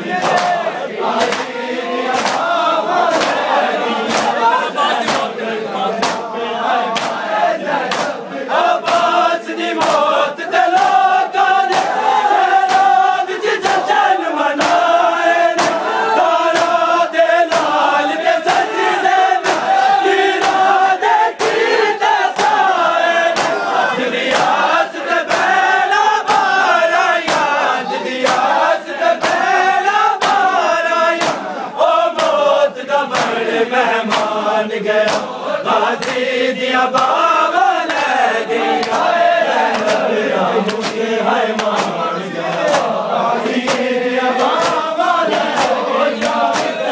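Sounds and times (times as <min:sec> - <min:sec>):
men chanting in unison: 0:00.0 - 0:46.9
hands slapping chests: 0:00.1 - 0:05.4, 0:06.0 - 0:32.5, 0:33.1 - 0:36.3, 0:36.9 - 0:46.9.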